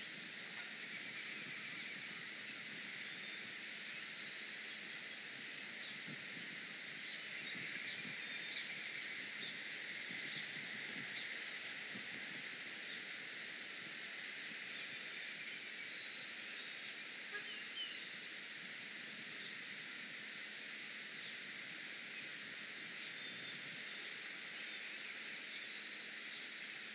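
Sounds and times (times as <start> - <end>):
steady microphone hiss: 0.0 - 26.9.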